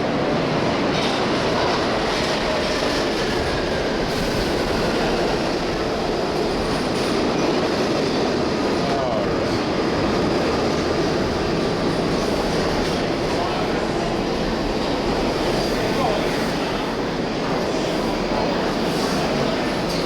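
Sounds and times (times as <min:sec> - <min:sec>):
subway train rumble and clatter: 0:00.0 - 0:20.0.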